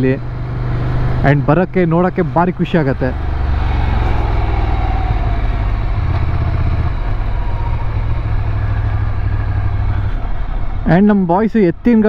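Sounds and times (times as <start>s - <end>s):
motorcycle engine running: 0.0s - 11.3s
road noise rushing: 0.0s - 12.0s.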